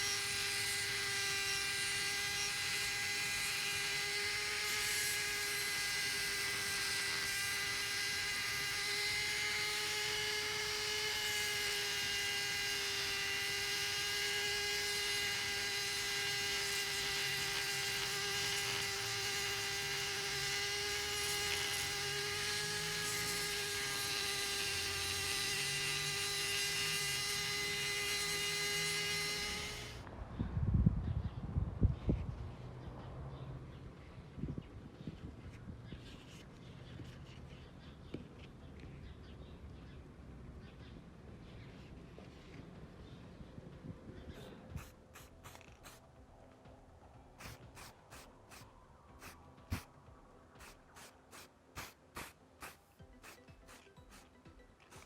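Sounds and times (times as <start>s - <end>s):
small electric tool motor whining: 0.0s - 30.1s, 34.5s - 39.2s, 44.1s - 55.0s.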